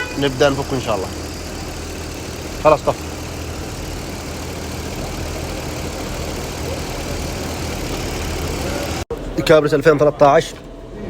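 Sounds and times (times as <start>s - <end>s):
car engine idling with misfire: 0.0s - 9.1s.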